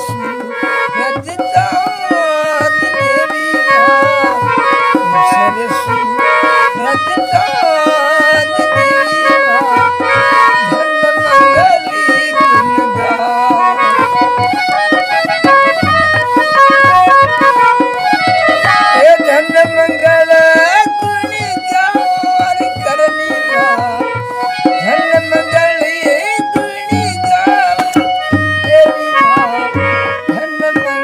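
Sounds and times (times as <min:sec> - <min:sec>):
hand drum rhythm: 0:00.0 - 0:31.0.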